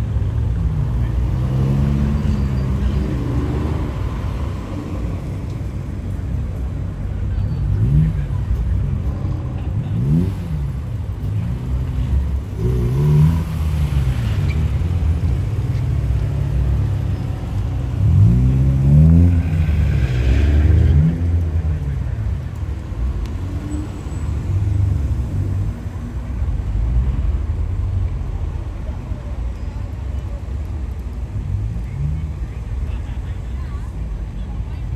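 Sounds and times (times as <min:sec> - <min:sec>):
car engine revving: 0:00.0 - 0:34.7.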